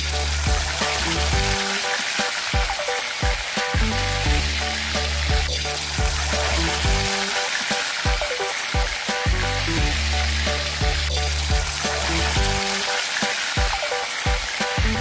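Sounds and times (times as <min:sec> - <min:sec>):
background music with bass line: 0:00.0 - 0:15.0
chicken sizzling in hot oil: 0:00.0 - 0:15.0.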